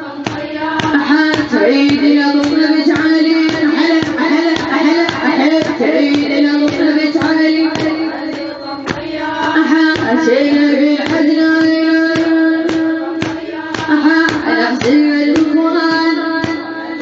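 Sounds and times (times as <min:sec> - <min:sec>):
rhythmic chest-beating: 0:00.0 - 0:17.0
woman chanting a lament: 0:00.0 - 0:17.0.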